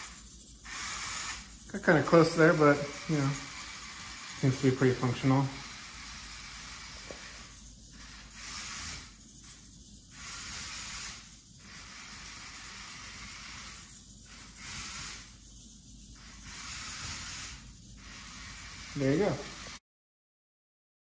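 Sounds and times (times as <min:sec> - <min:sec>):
toy car motors whirring: 0:00.0 - 0:19.8.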